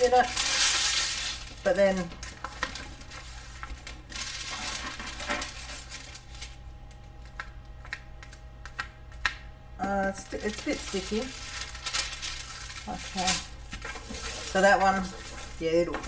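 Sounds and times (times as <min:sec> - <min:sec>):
plastic film crinkling: 0:00.0 - 0:08.8, 0:09.9 - 0:16.0.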